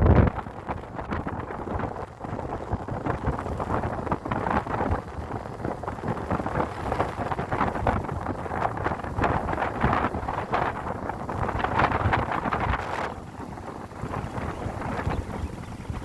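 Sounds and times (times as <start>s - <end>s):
motorcycle vehicle noise: 0.0s - 16.0s
wind buffeting microphone: 0.0s - 16.0s.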